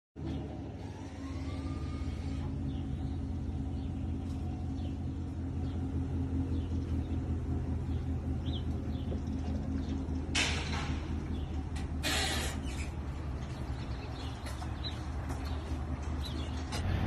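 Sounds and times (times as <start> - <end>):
vehicle engine rumbling: 0.2 - 17.0.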